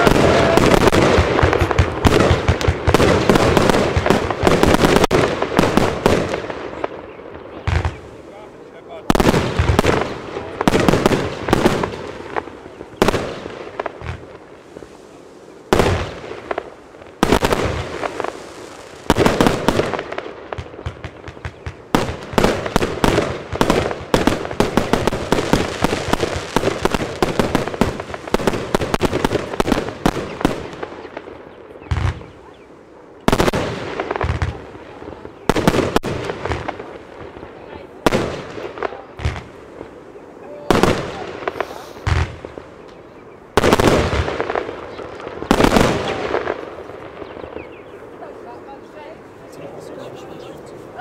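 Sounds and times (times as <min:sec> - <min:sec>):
firework aerial bursts with crackle: 0:00.0 - 0:32.6, 0:33.2 - 0:51.0.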